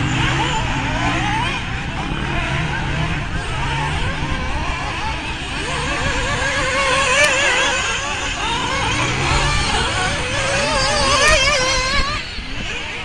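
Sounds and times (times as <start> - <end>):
rc car engines whining: 0.0 - 13.0.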